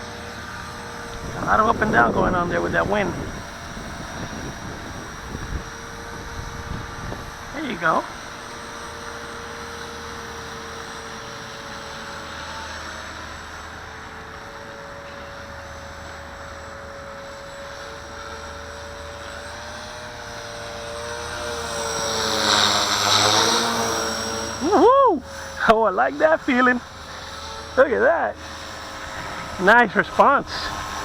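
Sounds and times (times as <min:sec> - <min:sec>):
low wind noise: 0:00.0 - 0:31.0
model helicopter whine: 0:00.0 - 0:31.0.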